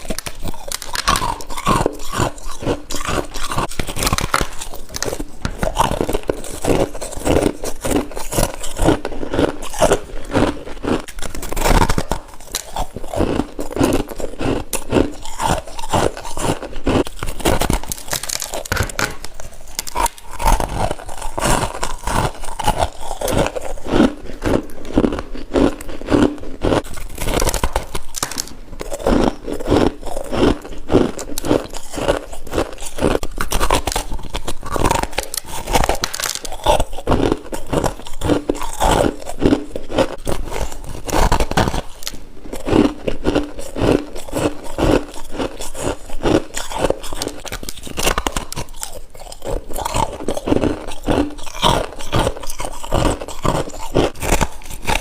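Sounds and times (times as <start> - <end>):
frost being chewed: 0.0 - 55.0.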